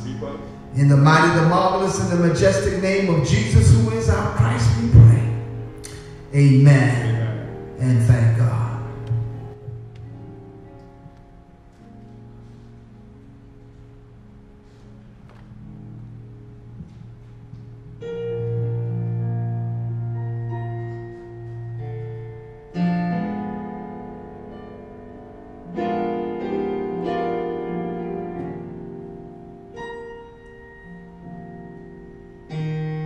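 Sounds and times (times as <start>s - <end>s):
piano playing slow chords: 0.0s - 33.0s.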